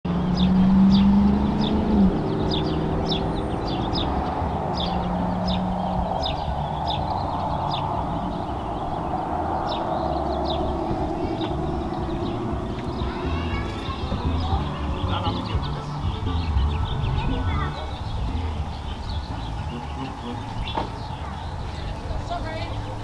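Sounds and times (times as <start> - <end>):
low hum: 0.1 - 21.5
outdoor background rumble: 0.1 - 23.0
small birds chirping: 0.1 - 23.0.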